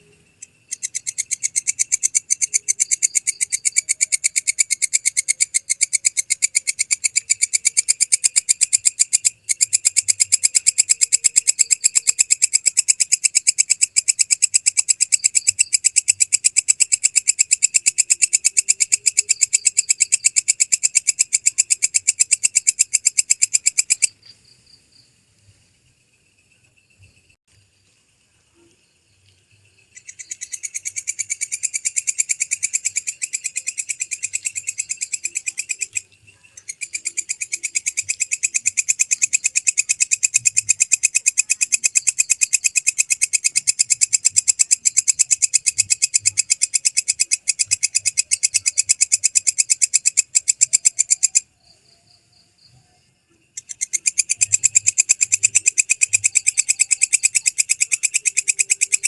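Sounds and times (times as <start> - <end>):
katydid trilling: 0.0 - 24.2, 29.9 - 51.6, 53.5 - 59.0.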